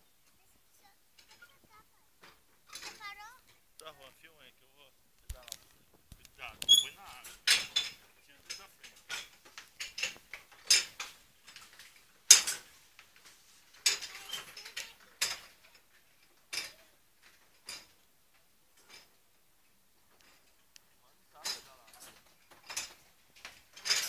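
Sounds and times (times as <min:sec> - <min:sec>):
sharp clicks and light knocks: 0:01.2 - 0:03.9, 0:05.1 - 0:24.0.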